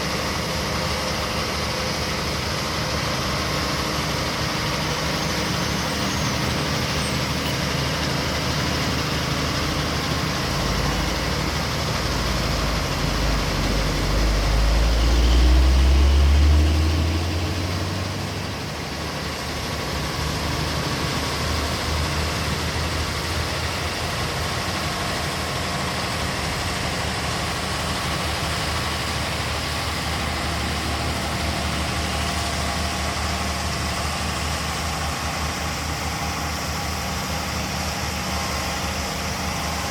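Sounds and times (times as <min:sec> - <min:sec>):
diesel engine of heavy machinery: 0:00.0 - 0:39.9.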